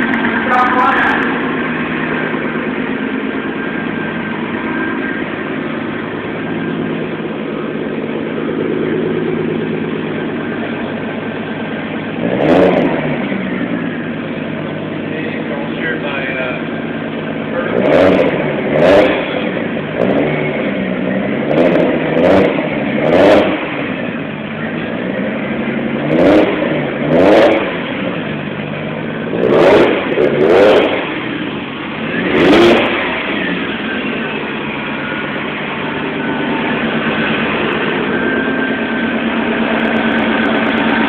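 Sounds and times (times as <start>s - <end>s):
car engine revving and idling: 0.0s - 41.0s.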